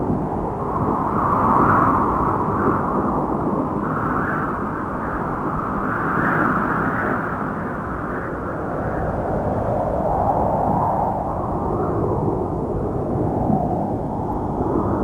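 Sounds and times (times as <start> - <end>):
wind blowing in gusts: 0.0 - 15.0.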